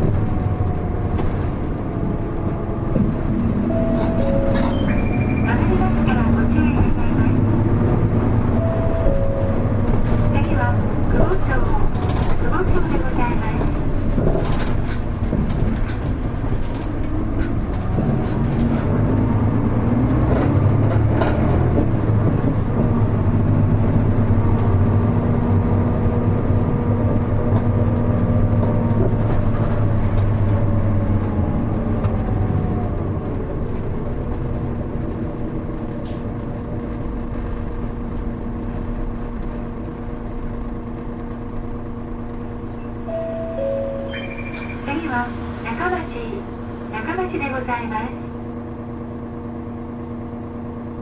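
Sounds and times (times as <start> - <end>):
bus diesel engine: 0.0 - 51.0.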